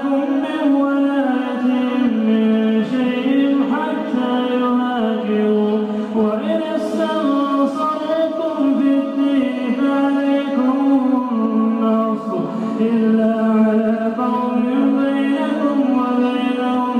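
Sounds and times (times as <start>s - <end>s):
man chanting melodically: 0.0s - 16.9s.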